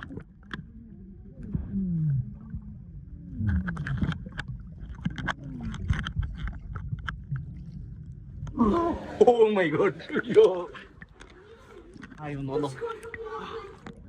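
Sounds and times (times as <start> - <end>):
underwater gurgling and splashing: 0.0 - 14.0.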